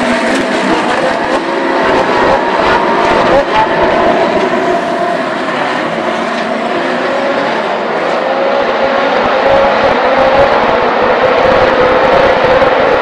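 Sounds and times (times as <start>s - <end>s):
race car engines at speed: 0.0s - 13.0s.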